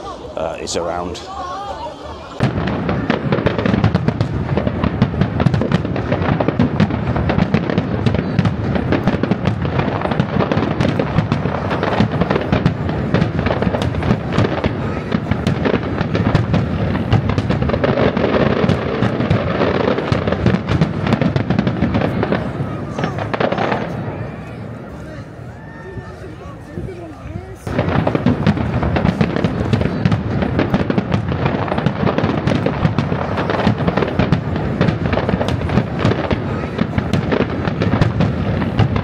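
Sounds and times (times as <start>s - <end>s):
fireworks bursts and crackling bangs: 2.3s - 39.0s.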